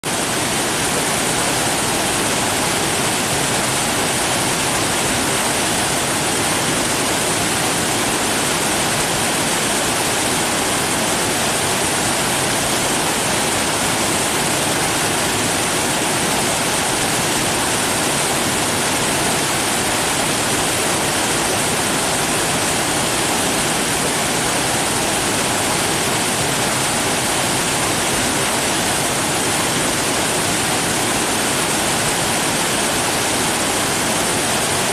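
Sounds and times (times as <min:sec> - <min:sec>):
flowing water rushing: 0:00.1 - 0:34.9.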